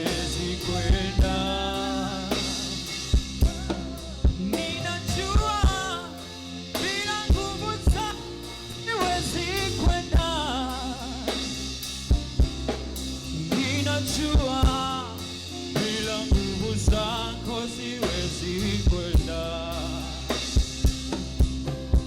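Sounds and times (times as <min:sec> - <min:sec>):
gospel praise band music: 0:00.0 - 0:22.0.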